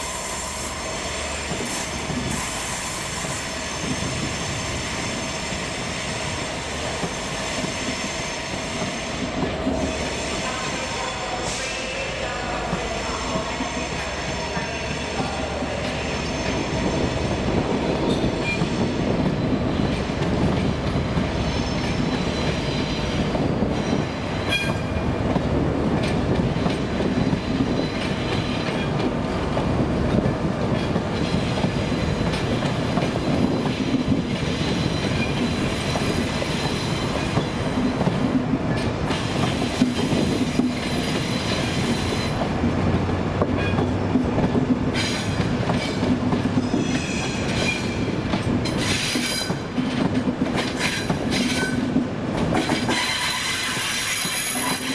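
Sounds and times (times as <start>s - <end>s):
train wheels on rails: 0.0s - 54.9s.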